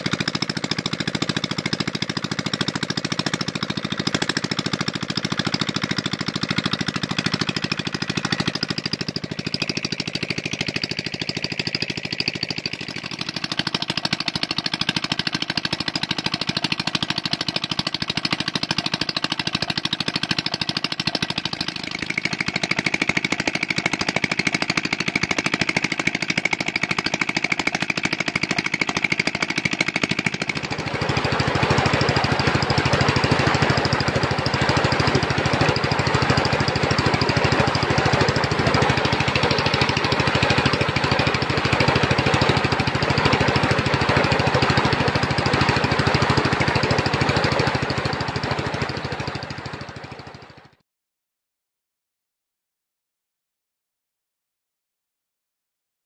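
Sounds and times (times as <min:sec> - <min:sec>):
water gushing from pipe: 0:00.0 - 0:50.4
diesel engine pulsing exhaust: 0:00.0 - 0:50.7.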